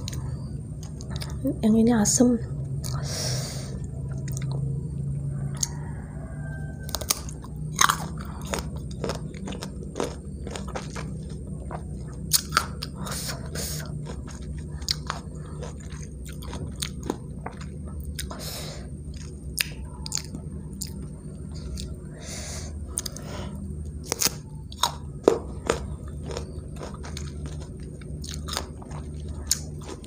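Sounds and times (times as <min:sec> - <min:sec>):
crunching and chewing mango: 0:00.0 - 0:01.6, 0:02.5 - 0:30.0.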